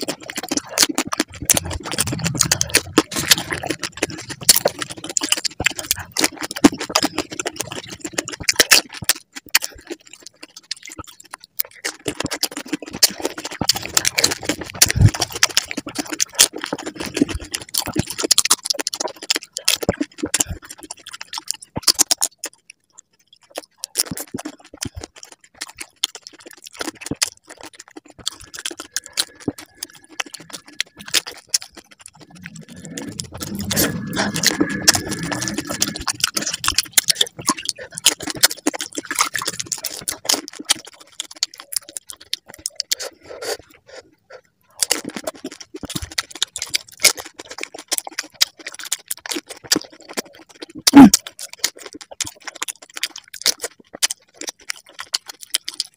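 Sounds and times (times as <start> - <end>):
crisp shells crunching: 0.0 - 22.6, 23.4 - 43.6, 44.8 - 55.9
chewing: 0.0 - 55.9.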